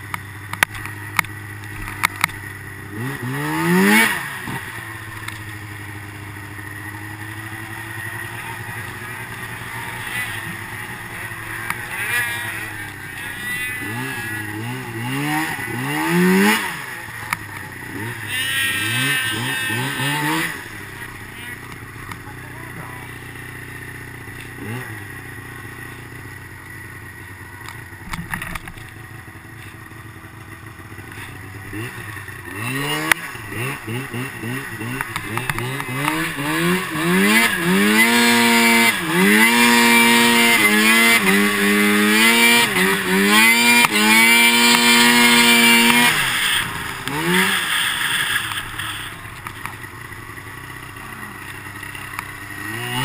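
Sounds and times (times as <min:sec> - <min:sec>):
snowmobile engine revving: 0:00.0 - 0:26.2, 0:29.3 - 0:53.0.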